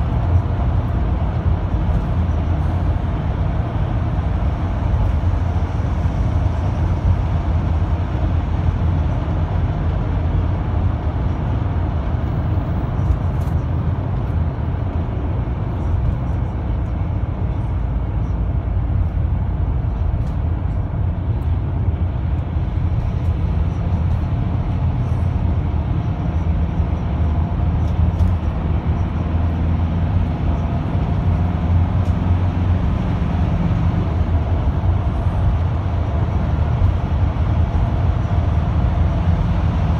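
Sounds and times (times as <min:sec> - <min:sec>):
minibus engine and road noise: 0:00.0 - 0:39.9.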